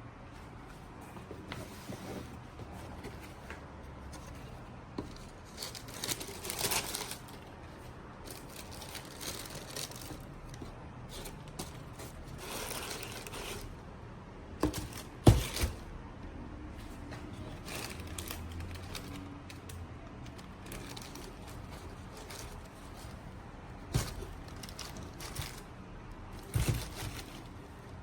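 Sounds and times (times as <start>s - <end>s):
cardboard and paper rustling: 0.3s - 13.9s, 14.6s - 15.9s, 16.7s - 28.0s.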